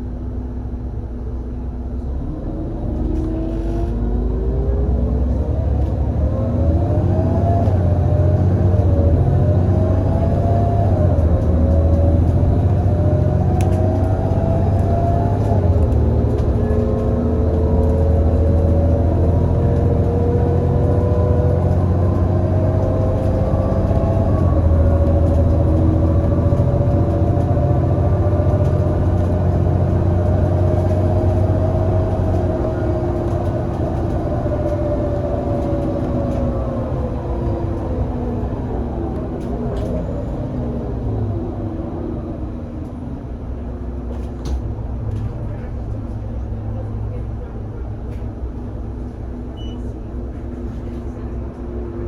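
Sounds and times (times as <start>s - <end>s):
bus engine rumble: 0.0s - 52.0s.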